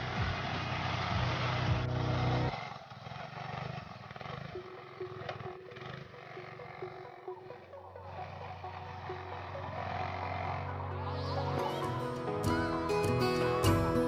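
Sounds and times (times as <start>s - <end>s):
engine-like rumble: 0.0s - 14.0s
motorcycle engine running: 0.0s - 14.0s.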